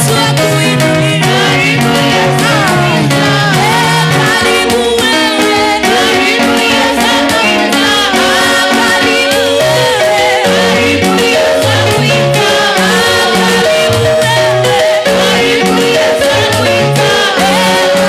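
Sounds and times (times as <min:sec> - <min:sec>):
gospel song with voices and band: 0:00.0 - 0:18.0.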